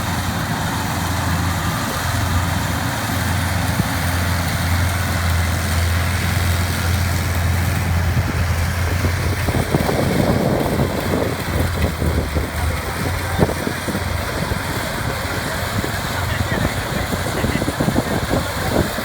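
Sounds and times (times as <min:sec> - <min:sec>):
diesel tractor engine humming: 0:00.0 - 0:19.0.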